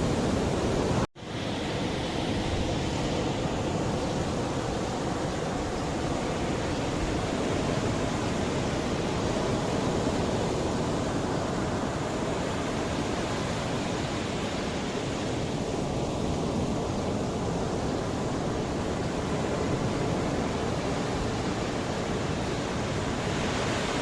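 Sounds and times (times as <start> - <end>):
surf washing ashore: 0.0 - 24.0.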